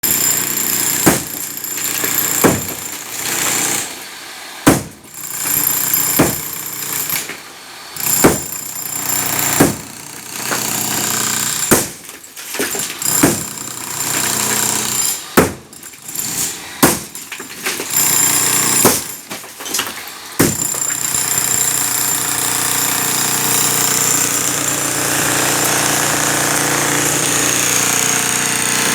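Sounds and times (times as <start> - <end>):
demolition breaker hammering concrete: 0.0 - 3.9, 4.6 - 7.4, 8.0 - 28.9.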